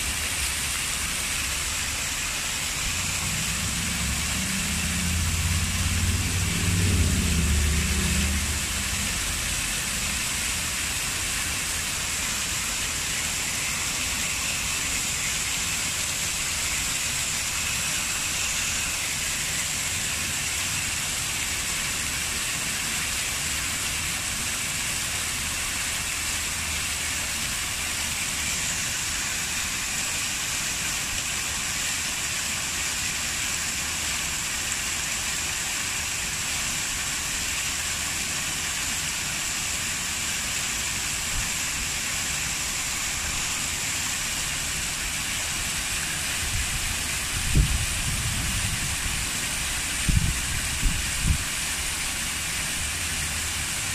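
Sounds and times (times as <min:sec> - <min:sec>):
fountain jets splashing: 0:00.0 - 0:53.9.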